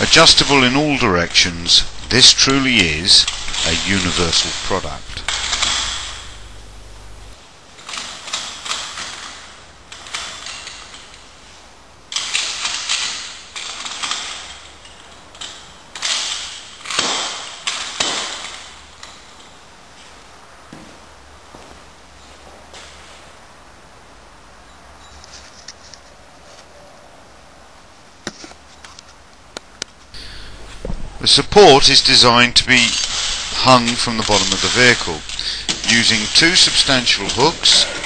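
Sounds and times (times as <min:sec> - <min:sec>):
room tone hiss: 0:00.0 - 0:38.0.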